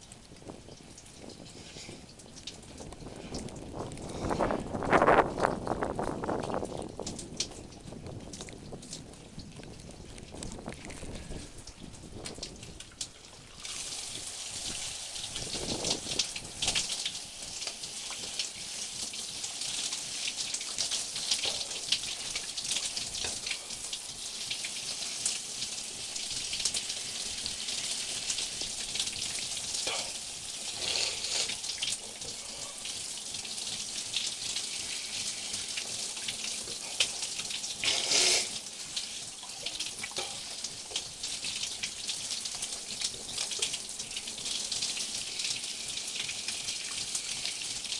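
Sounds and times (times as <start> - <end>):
water running and splashing: 0.0 - 47.9.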